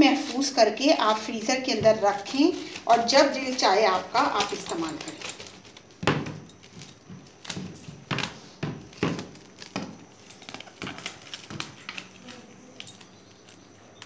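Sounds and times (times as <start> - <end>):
cling film crinkling: 0.0 - 14.0.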